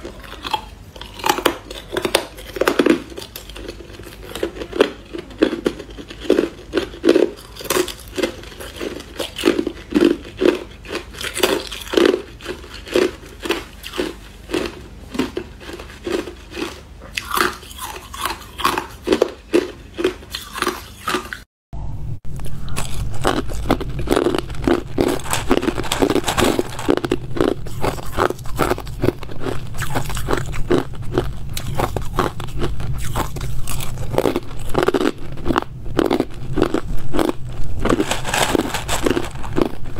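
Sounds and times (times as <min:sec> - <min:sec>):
ice being chewed: 0:00.0 - 0:21.5, 0:22.4 - 0:39.9
low steady hum: 0:00.0 - 0:39.9.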